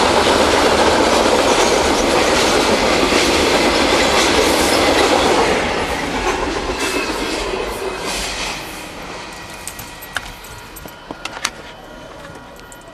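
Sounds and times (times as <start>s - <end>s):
freight train cars rolling: 0.0s - 12.9s.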